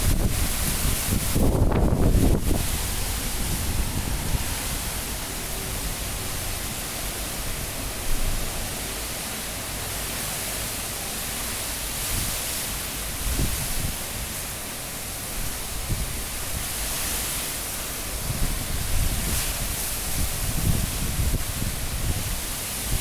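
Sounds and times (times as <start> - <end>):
rushing cyclone wind: 0.0 - 23.0.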